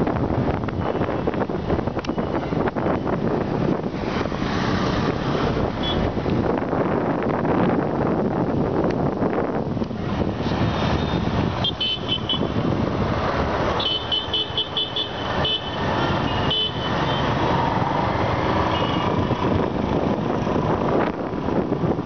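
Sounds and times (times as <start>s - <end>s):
motorbike road noise: 0.0s - 22.0s
wind noise: 0.0s - 22.0s.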